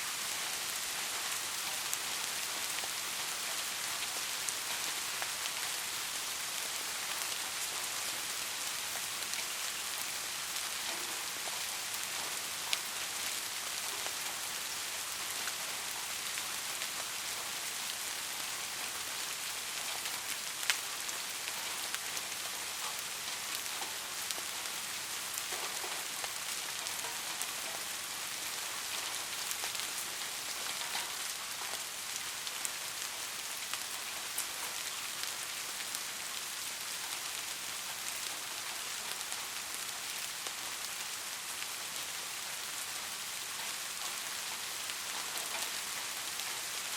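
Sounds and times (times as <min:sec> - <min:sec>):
individual raindrops: 0:00.0 - 0:46.9
steady rain falling: 0:00.0 - 0:46.9.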